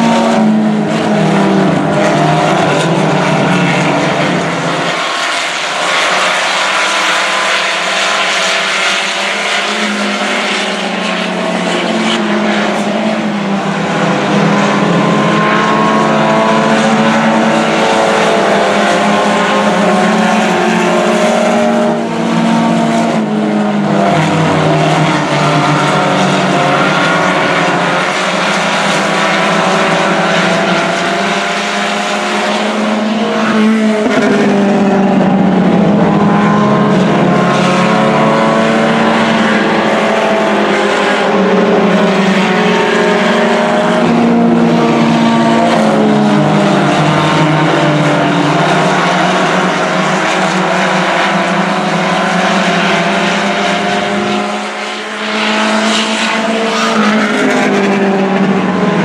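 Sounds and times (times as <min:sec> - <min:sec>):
race car engines revving: 0:00.0 - 0:59.0.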